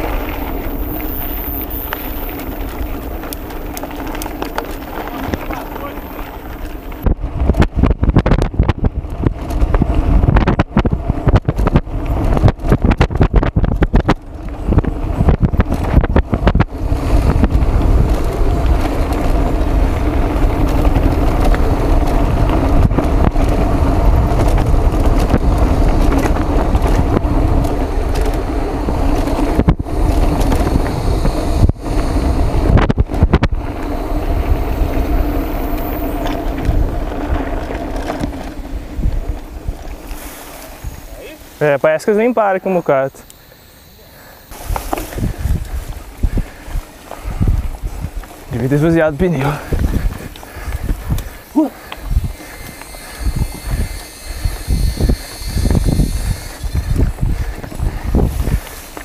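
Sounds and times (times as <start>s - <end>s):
steady buzz: 0.0s - 7.9s, 8.6s - 59.0s
bike tyres rumbling on dirt: 0.0s - 59.0s
wind buffeting microphone: 0.0s - 59.0s.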